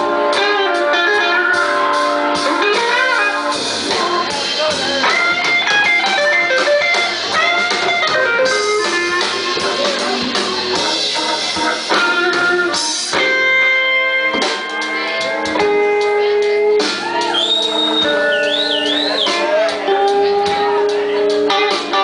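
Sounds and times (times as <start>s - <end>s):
electric guitar melody: 0.0s - 22.0s
live band music: 0.0s - 22.0s.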